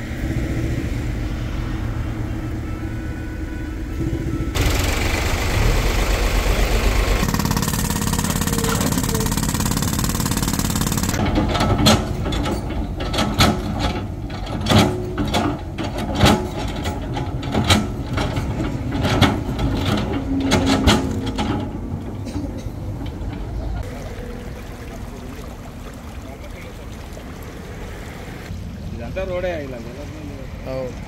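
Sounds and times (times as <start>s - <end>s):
excavator engine: 0.0s - 29.0s.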